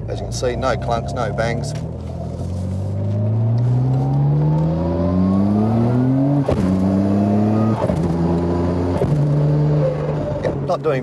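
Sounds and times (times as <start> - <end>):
car engine pulling: 0.0 - 11.0.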